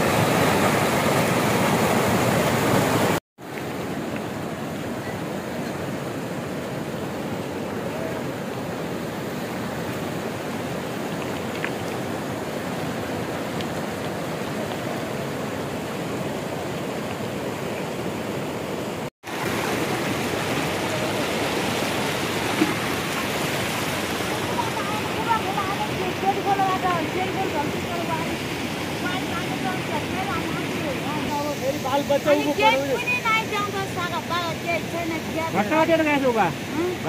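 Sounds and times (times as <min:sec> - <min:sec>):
river water rushing over stones: 0:00.0 - 0:37.0.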